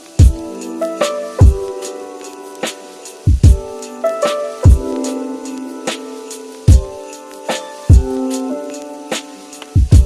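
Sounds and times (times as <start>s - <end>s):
keyboard chords: 0.0s - 10.0s
drum beat: 0.1s - 2.0s, 2.6s - 5.2s, 5.9s - 10.0s.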